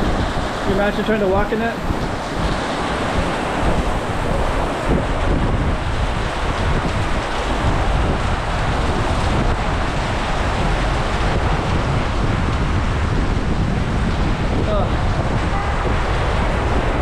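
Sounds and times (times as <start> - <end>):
heavy rain falling: 0.0 - 17.0
wind rumbling on microphone: 0.0 - 17.0.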